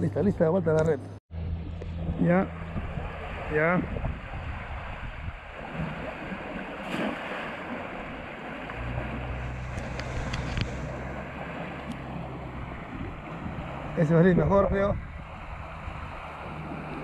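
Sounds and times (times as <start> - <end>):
low steady rumble: 0.0 - 6.8, 7.5 - 17.0
water rushing through a canal: 1.7 - 17.0.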